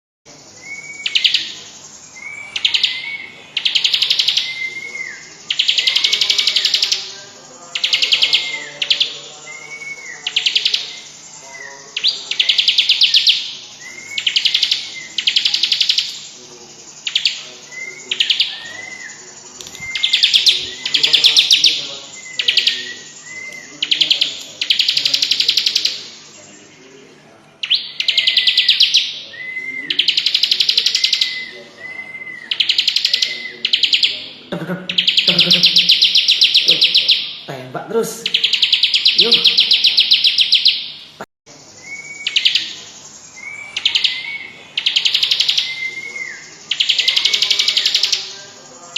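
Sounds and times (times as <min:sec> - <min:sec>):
bird rattling trills: 0:00.4 - 0:26.8, 0:27.6 - 0:31.5, 0:34.9 - 0:37.5, 0:38.2 - 0:41.0, 0:41.6 - 0:48.9.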